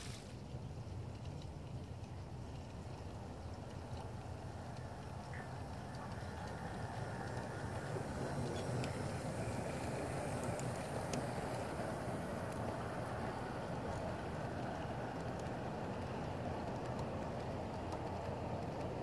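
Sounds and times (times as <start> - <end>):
model train wheels rumbling on rail: 0.0 - 19.0.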